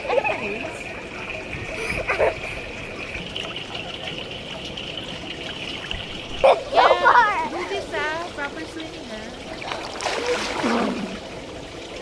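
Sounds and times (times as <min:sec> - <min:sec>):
trickling running water: 0:00.0 - 0:12.0.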